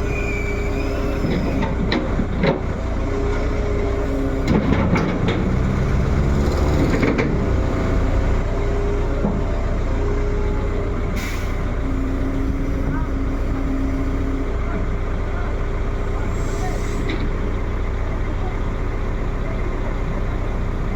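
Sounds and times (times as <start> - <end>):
heavy diesel engine running: 0.0 - 20.9.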